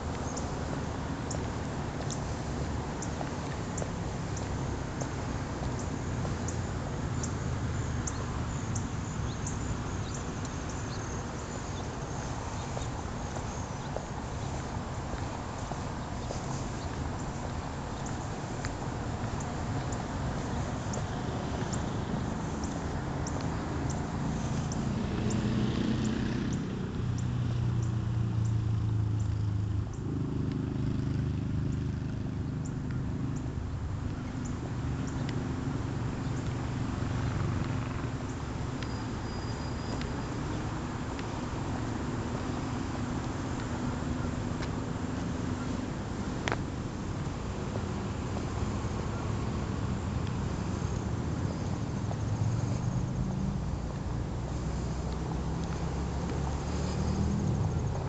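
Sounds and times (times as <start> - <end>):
footsteps on asphalt: 0.0 - 58.0
faint regular ticks: 0.1 - 31.9, 36.3 - 58.0.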